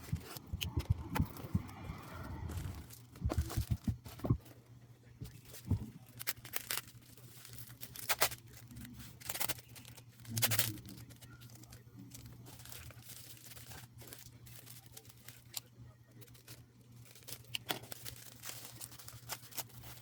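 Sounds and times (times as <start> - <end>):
plastic and paper wrapping tearing: 0.0 - 4.5, 5.2 - 20.0
steady low hum: 0.0 - 20.0.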